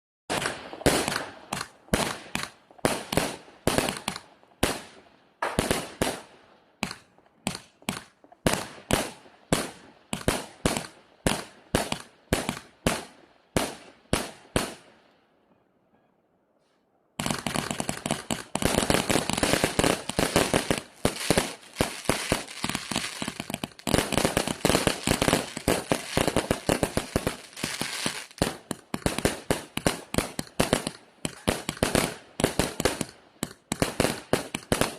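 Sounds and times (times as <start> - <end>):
fireworks cake firing shots: 0.3 - 14.9, 17.2 - 34.9.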